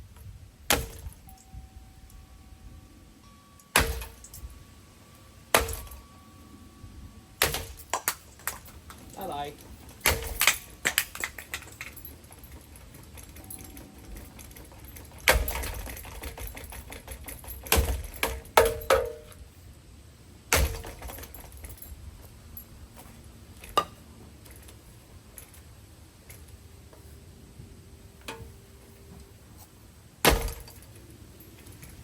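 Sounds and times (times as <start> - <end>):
metal fan parts clanking: 0.0 - 19.8, 20.4 - 32.0.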